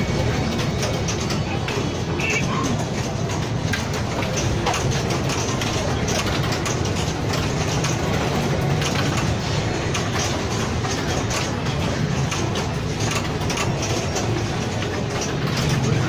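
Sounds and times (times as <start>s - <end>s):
pinball machine clicks and knocks: 0.0s - 16.0s.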